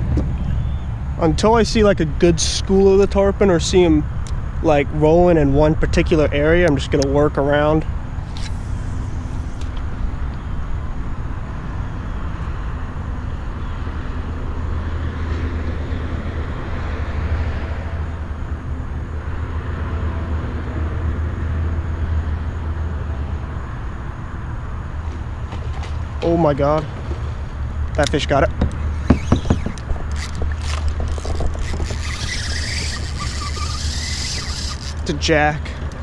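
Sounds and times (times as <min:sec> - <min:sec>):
low engine drone: 0:05.4 - 0:36.0.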